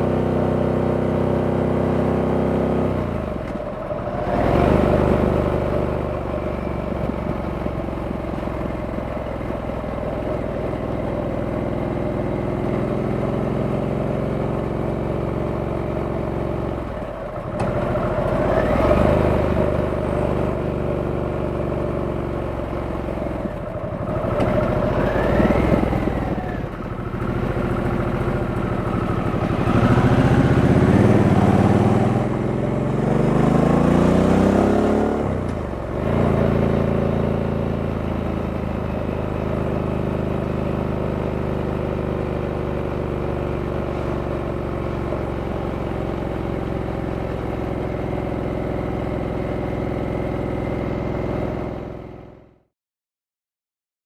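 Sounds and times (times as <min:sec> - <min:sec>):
motorcycle engine running: 0:00.0 - 0:52.6.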